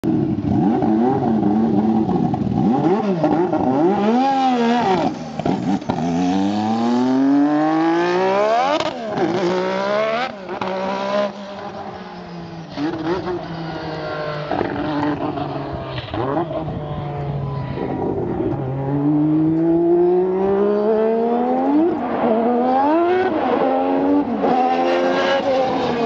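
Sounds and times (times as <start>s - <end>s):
racing car engine revving: 0.4s - 12.0s, 12.7s - 26.0s.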